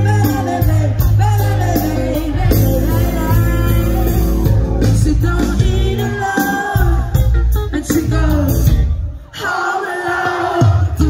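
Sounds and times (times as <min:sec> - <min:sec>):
live rock band playing: 0:00.0 - 0:09.3
woman singing lead: 0:00.0 - 0:11.0.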